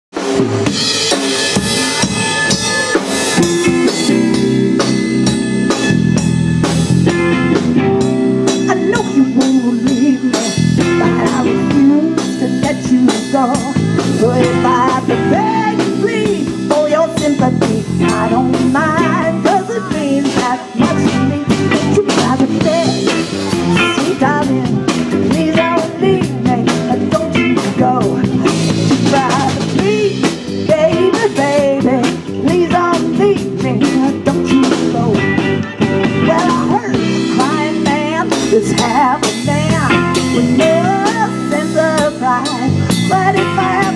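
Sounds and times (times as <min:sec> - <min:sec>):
live blues band playing: 0:00.1 - 0:43.9
woman singing: 0:08.5 - 0:43.9.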